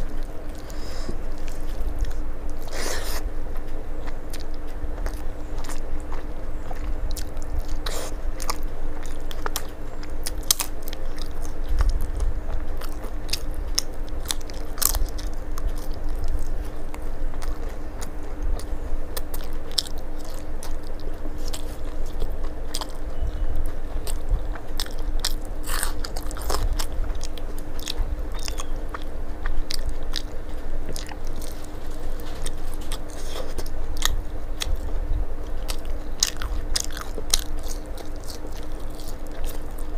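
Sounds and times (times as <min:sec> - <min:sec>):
low hum: 0:00.0 - 0:39.9
person chewing crunchy food: 0:00.0 - 0:39.9.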